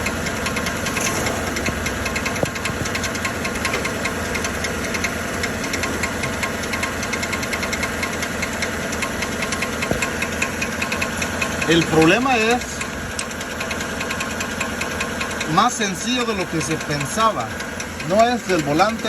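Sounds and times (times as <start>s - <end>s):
engine idling: 0.0s - 19.0s
rapid metallic knocking: 0.0s - 19.0s.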